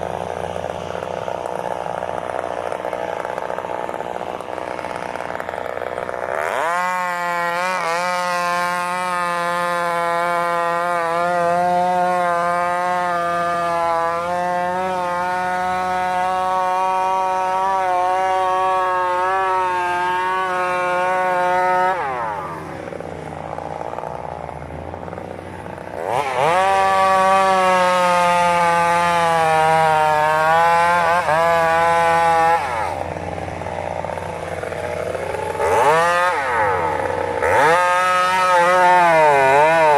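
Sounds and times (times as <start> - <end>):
chainsaw cutting tree trunk: 0.0 - 39.9
chainsaw idling: 0.0 - 39.9.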